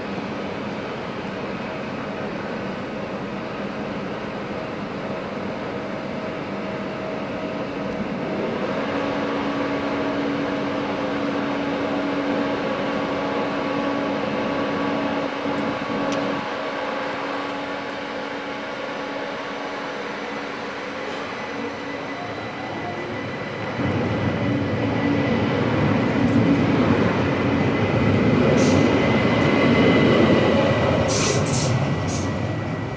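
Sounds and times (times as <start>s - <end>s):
electric train humming: 0.0s - 32.9s.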